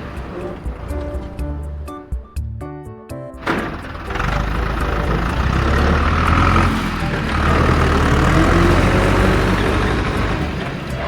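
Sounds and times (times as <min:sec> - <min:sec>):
heavy vehicle engine rumbling: 0:00.0 - 0:02.5, 0:03.4 - 0:11.0.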